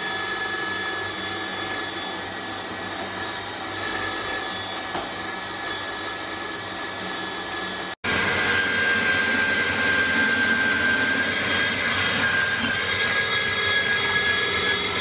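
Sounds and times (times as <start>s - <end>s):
shredder motor whining: 0.0s - 15.0s.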